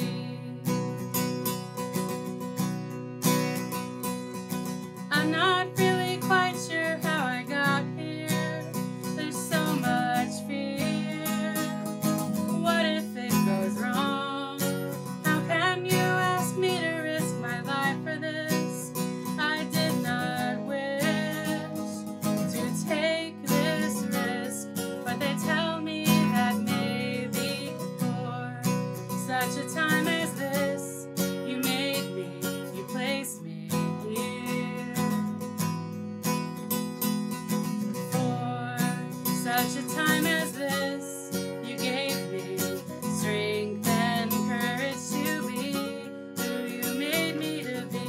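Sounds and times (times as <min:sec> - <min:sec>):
acoustic guitar strummed and picked: 0:00.0 - 0:48.0.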